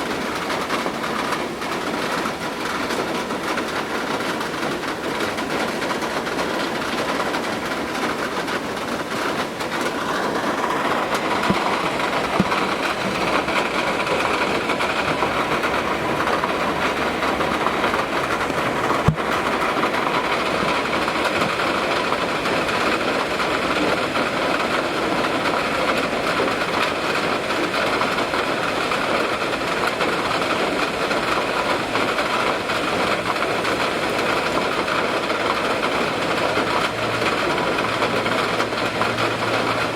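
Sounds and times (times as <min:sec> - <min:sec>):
rain and wind hiss: 0:00.0 - 0:39.9.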